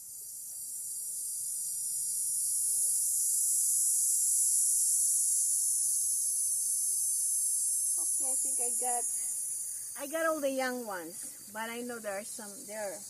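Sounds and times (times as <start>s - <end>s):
insects shrilling: 0.0s - 13.0s.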